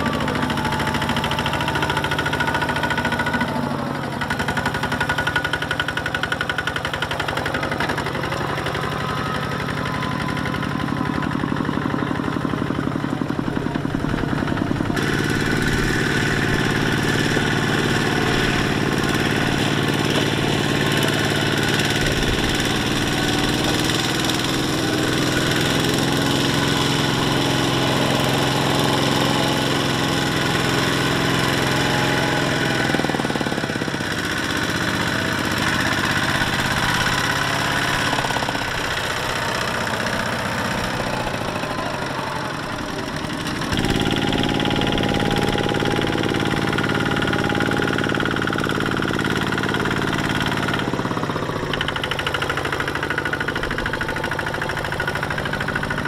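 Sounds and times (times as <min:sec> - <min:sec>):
walking tractor diesel engines: 0:00.0 - 0:56.0.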